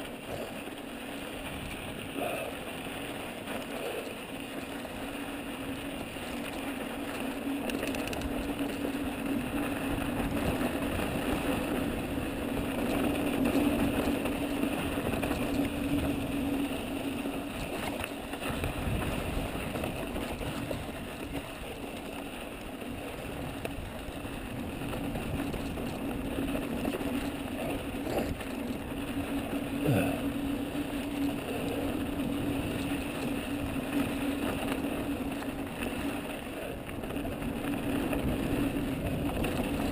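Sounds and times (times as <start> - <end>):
bike rattling: 0.0 - 39.9
bike tyres on dirt: 0.0 - 39.9.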